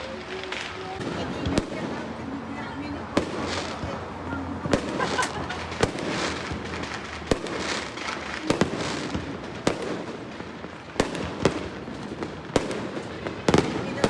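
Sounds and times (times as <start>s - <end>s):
fireworks bangs: 0.0s - 14.0s
fireworks hissing: 0.0s - 14.0s.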